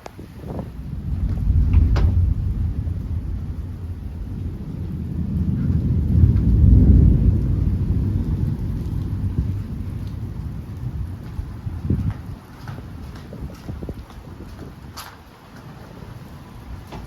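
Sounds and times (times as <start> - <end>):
steady rain: 0.0 - 17.0
thunder rumbling: 0.2 - 17.0.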